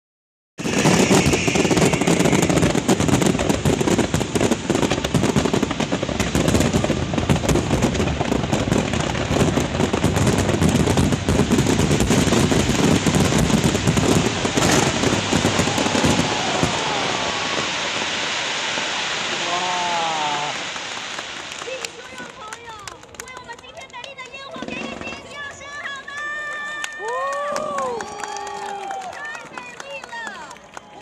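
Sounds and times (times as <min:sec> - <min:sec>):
fireworks bursting and crackling: 0:00.6 - 0:31.0.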